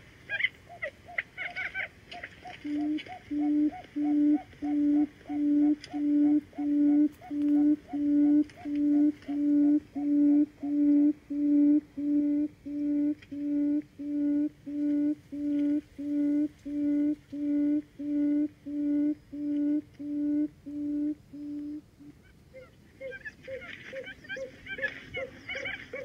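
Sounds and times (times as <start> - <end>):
bird low hollow hooting: 0.3 - 26.0.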